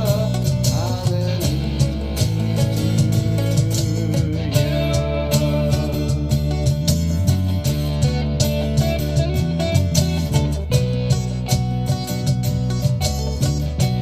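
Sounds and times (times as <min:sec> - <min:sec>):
bass line: 0:00.0 - 0:14.0
strummed guitar: 0:00.0 - 0:14.0.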